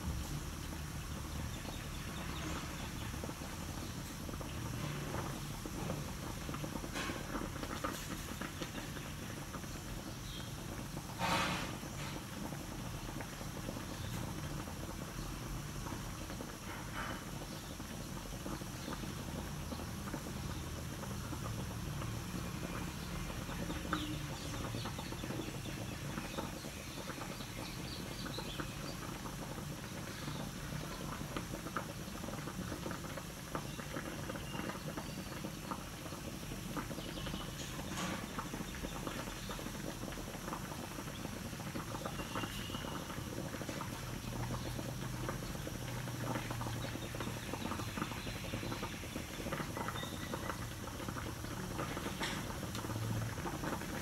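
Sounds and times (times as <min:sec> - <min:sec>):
liquid bubbling with pops: 0:00.0 - 0:54.0.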